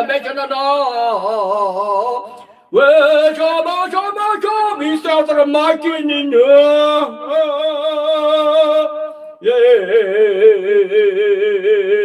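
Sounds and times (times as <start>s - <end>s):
man singing operatic notes: 0.0s - 12.0s.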